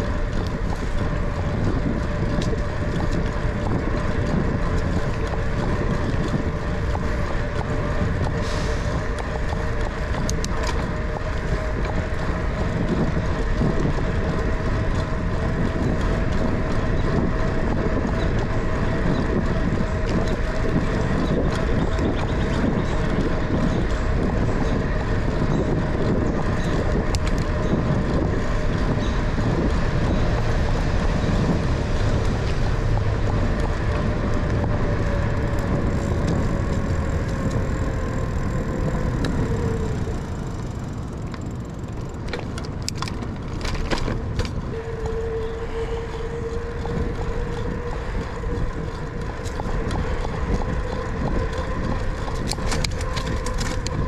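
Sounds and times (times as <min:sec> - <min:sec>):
bicycle tyre rumble: 0:00.0 - 0:54.0
wind: 0:00.0 - 0:54.0.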